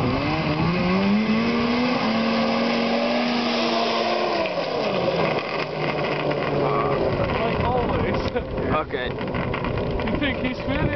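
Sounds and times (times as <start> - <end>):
snowmobile engine passing by: 0.0 - 10.9.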